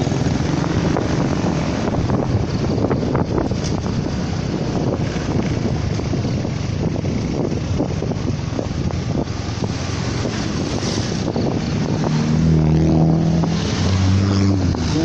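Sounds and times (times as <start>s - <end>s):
road vehicle rumble: 0.0s - 15.0s
wind buffeting microphone: 0.0s - 15.0s.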